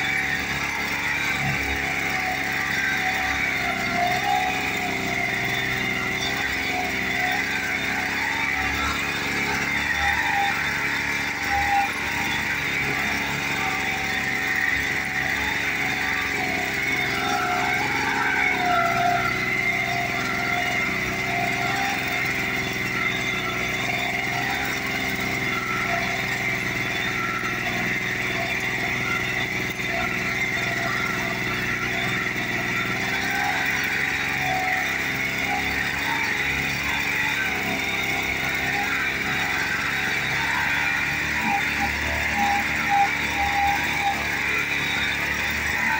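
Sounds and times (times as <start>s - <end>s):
walking tractor engine running: 0.0s - 45.9s.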